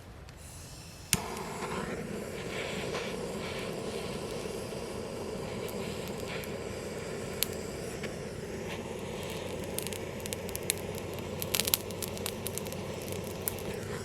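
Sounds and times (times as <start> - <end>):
steady low rush: 0.0 - 14.0
wood fire popping and crackling: 0.0 - 14.0.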